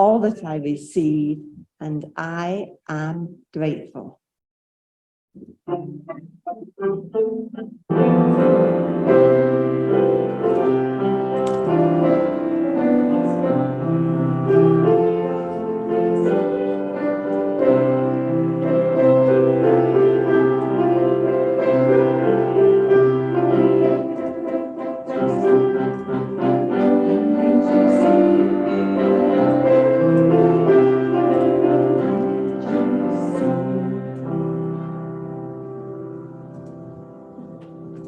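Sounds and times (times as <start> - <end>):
keyboard chords: 5.4 - 38.0.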